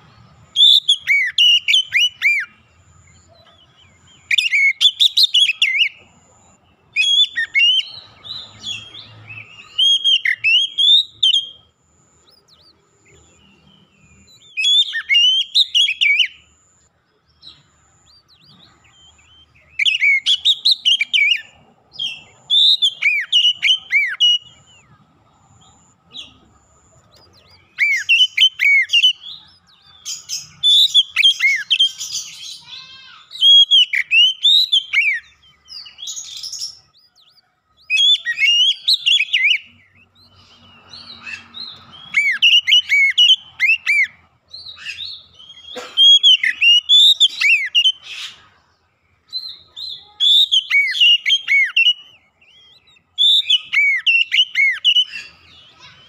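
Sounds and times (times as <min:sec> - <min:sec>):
magpie-robin singing whistled notes: 0:00.0 - 0:06.1, 0:06.8 - 0:16.5, 0:17.2 - 0:25.0, 0:25.6 - 0:32.7, 0:33.3 - 0:48.6, 0:49.2 - 0:56.0.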